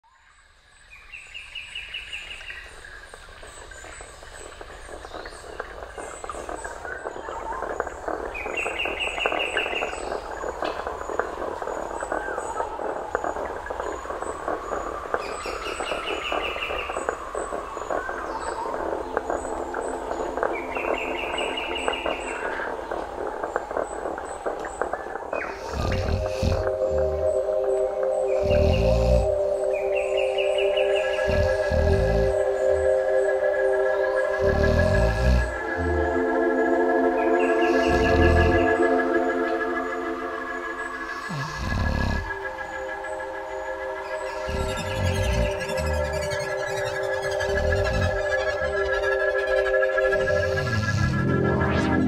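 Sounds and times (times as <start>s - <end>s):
chorus of animal chirps: 1.0s - 52.0s.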